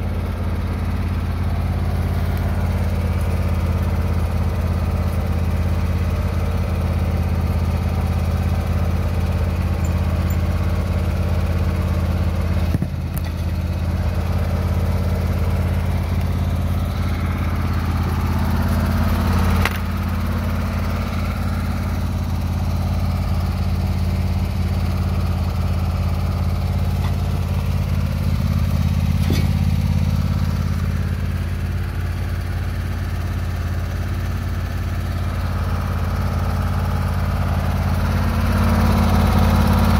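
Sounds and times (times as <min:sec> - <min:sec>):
lawn tractor engine idling: 0:00.0 - 0:39.9.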